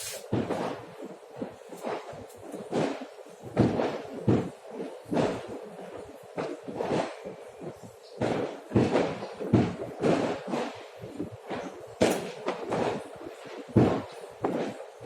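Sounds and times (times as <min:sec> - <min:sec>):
distant fireworks bangs and pops: 0:00.0 - 0:15.0.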